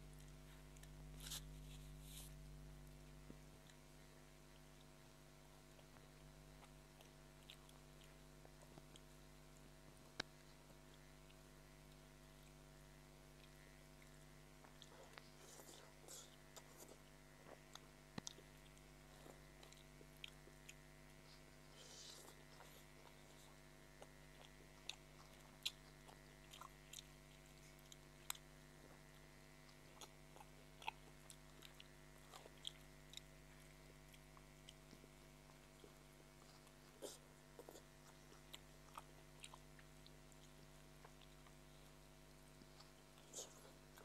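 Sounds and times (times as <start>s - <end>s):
faint steady hum: 0.0s - 44.0s
chewing noodles: 0.1s - 44.0s.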